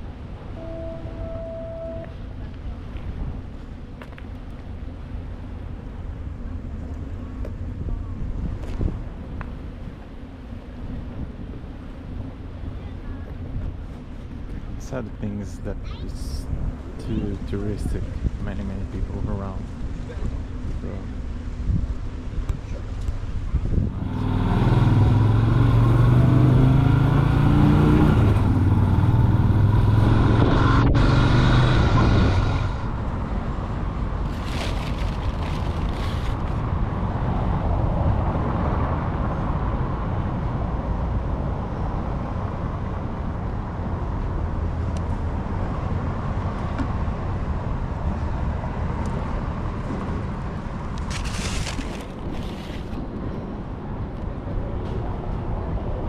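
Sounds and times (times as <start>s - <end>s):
rushing noise of riding: 0.0s - 56.0s.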